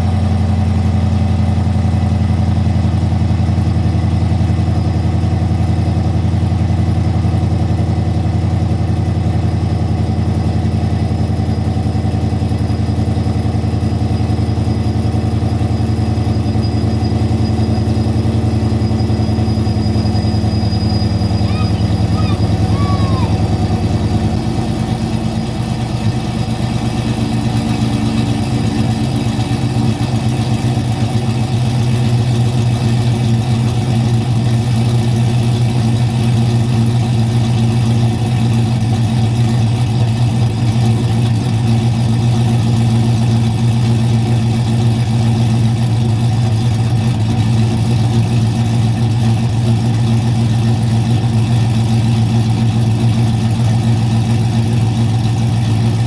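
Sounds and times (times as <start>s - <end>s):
loud engine idling: 0.0s - 56.0s.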